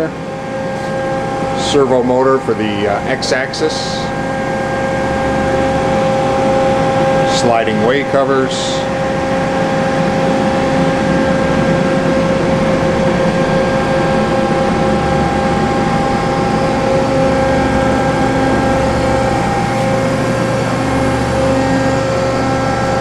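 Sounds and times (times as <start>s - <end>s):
machine hum with whining tones: 0.0s - 23.0s.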